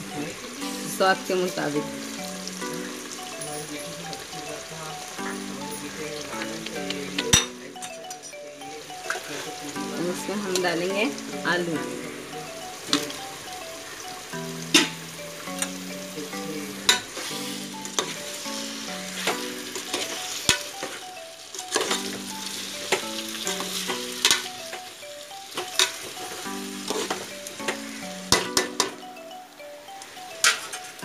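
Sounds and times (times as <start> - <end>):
food sizzling in a pot: 0.0 - 31.0
soft background melody: 0.0 - 31.0.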